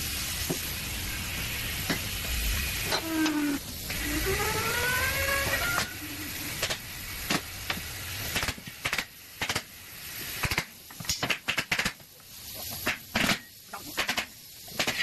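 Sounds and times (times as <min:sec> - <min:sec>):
machinery hissing: 0:00.0 - 0:15.0.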